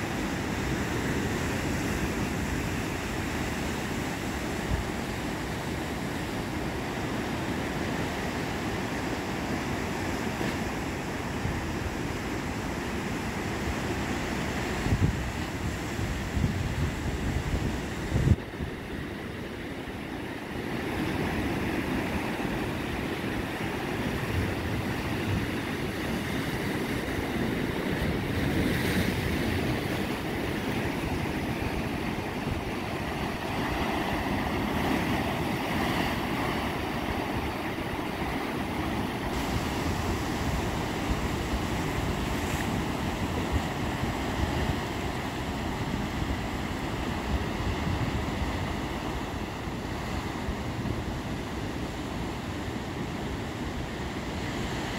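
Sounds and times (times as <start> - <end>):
surf breaking over rocks: 0.0 - 54.9
wind rumbling on microphone: 10.7 - 54.9.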